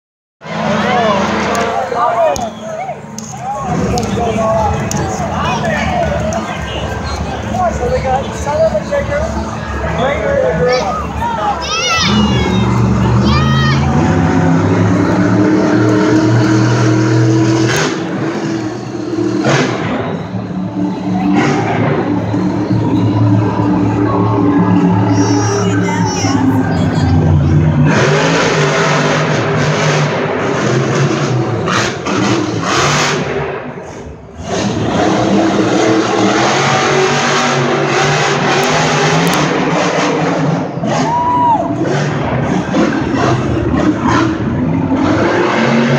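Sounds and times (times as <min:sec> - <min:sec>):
truck engine revving: 0:00.4 - 0:45.9.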